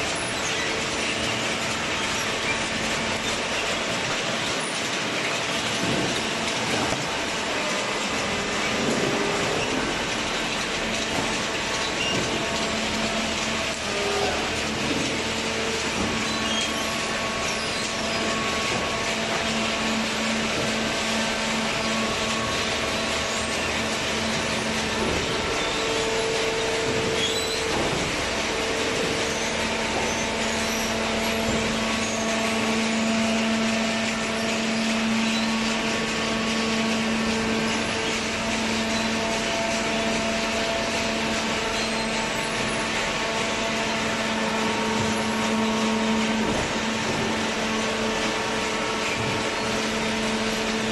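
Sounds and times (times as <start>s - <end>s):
machine hum: 0.0s - 50.9s.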